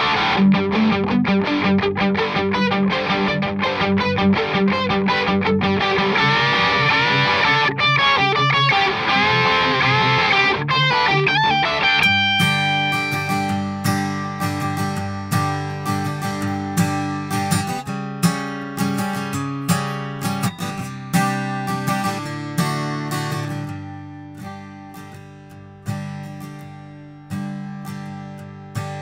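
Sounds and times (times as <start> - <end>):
acoustic guitar strumming chords: 0.0 - 29.0.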